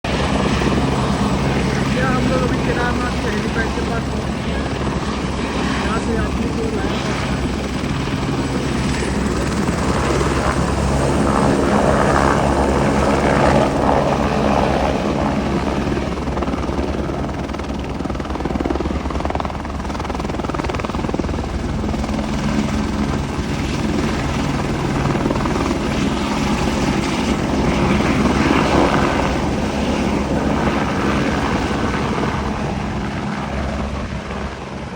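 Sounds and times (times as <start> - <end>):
helicopter rotor chop: 0.1 - 34.9.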